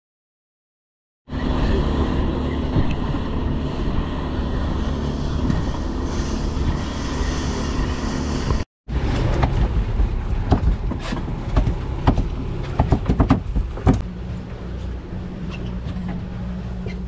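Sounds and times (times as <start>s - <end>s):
boat engine: 1.3s - 17.0s
water rushing along hull: 1.3s - 17.0s.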